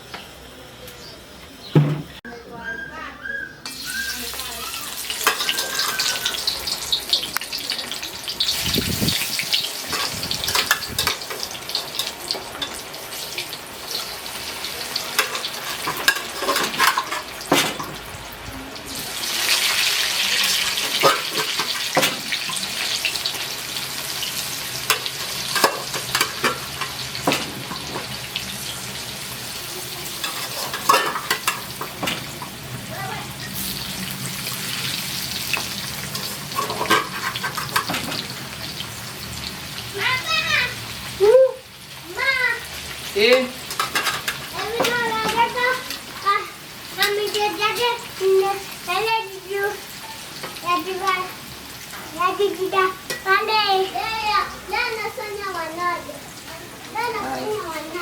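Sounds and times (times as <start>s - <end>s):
food sizzling in hot oil: 3.6s - 58.0s.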